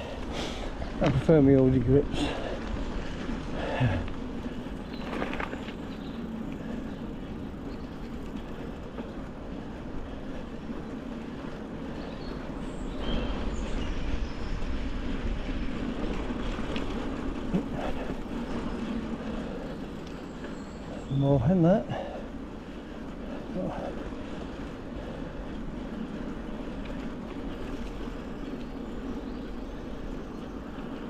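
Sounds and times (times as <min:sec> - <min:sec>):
bike tyres rumbling on trail: 0:00.0 - 0:31.0.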